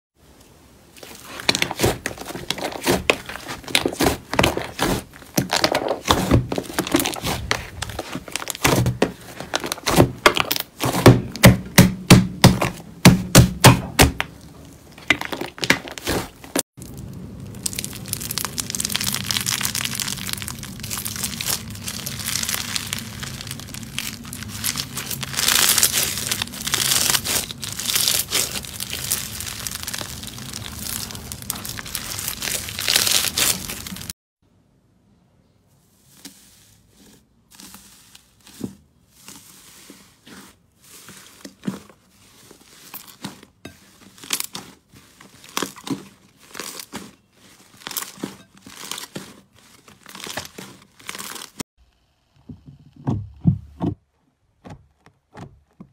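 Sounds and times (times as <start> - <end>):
slime squishing: 0.9 - 34.1, 35.9 - 51.6
crunchy slime crackling: 0.9 - 34.2, 36.0 - 51.6.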